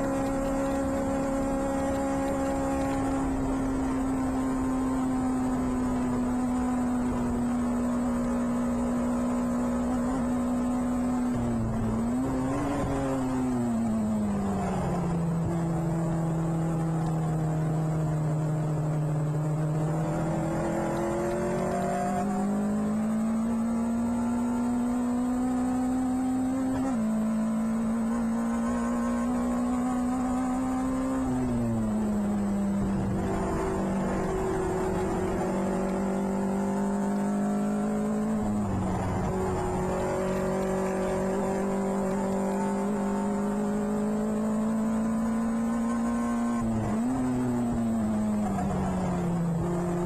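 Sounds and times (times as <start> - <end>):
race car engine at high revs: 0.0 - 50.0.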